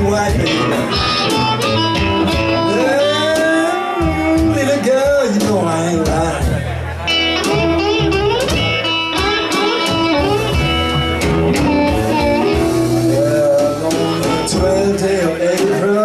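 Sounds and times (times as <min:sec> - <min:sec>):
bass: 0:00.0 - 0:16.0
blues guitar with bending notes: 0:00.0 - 0:16.0
drums: 0:00.0 - 0:16.0.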